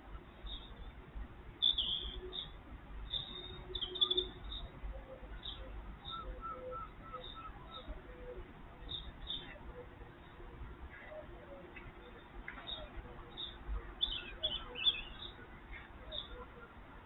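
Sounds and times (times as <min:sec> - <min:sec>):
small birds chirping: 0:00.4 - 0:01.0, 0:01.6 - 0:17.0.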